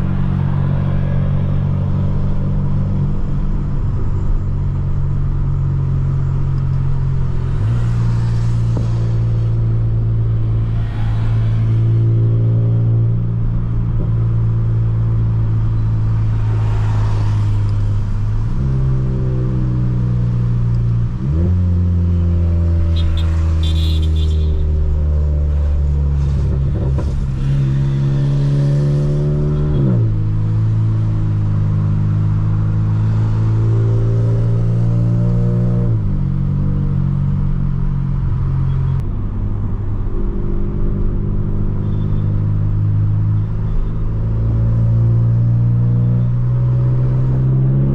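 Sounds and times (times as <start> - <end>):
car engine cruising: 0.0 - 47.9.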